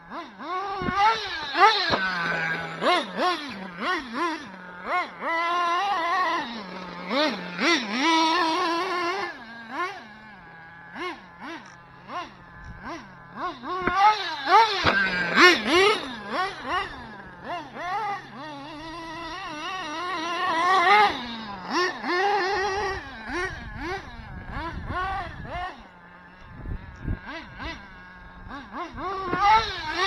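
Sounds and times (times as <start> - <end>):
small engine revving: 0.0 - 30.0.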